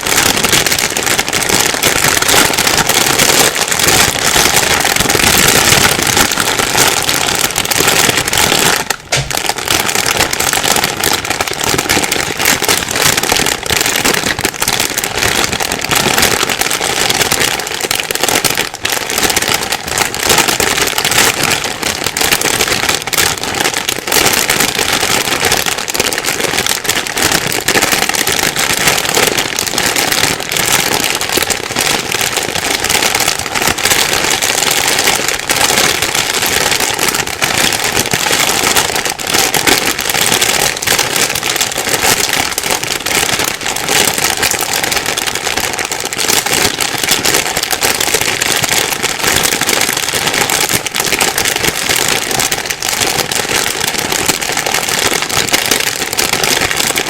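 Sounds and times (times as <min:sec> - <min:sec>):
plastic bag crinkling: 0:00.0 - 0:57.0.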